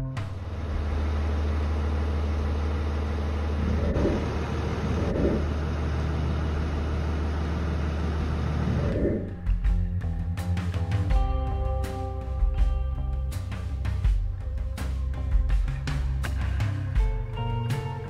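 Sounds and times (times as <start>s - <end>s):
diesel car engine running: 0.0s - 18.0s.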